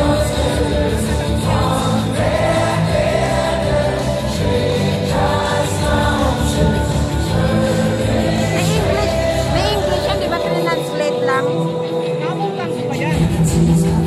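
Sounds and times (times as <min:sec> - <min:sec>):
live band with voices singing: 0:00.0 - 0:14.0.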